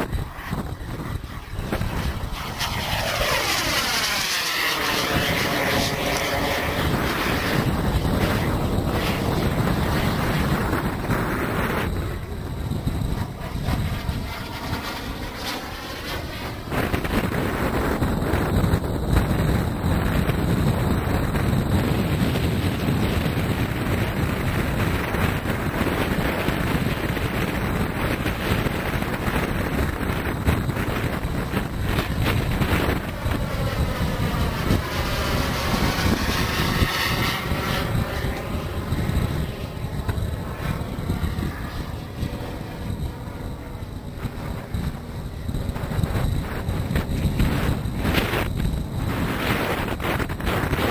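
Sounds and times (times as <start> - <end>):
model jet turbines running: 0.0 - 50.9
wind buffeting microphone: 0.0 - 50.9.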